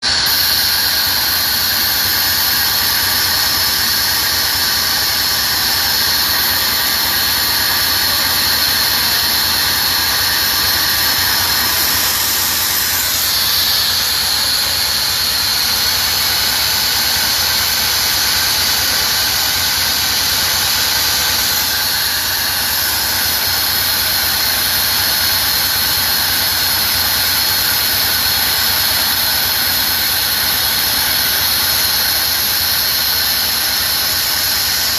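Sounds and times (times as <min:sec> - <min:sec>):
oxygen machine hissing and whining: 0:00.0 - 0:34.9.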